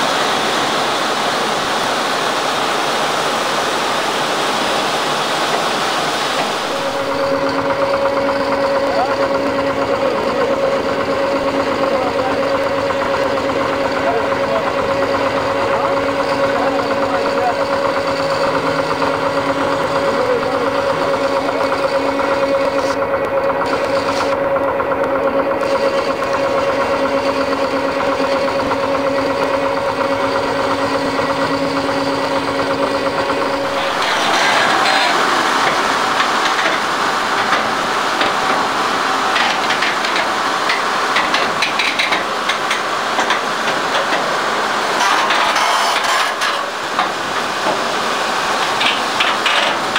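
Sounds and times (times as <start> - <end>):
engine drone: 0.0 - 49.9
machinery clattering and knocking: 4.4 - 49.9.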